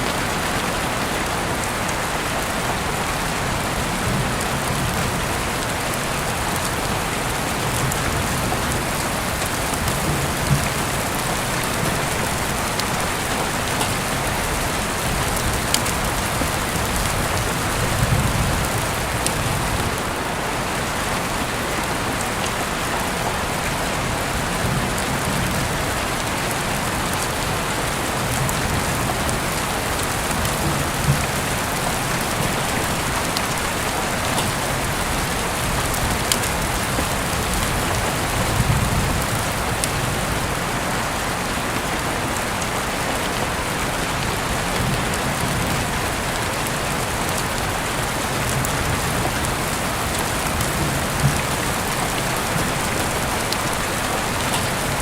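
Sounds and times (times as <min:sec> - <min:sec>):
heavy rain hissing: 0:00.0 - 0:55.0
raindrops ticking: 0:04.0 - 0:20.2, 0:24.1 - 0:40.7, 0:42.4 - 0:55.0.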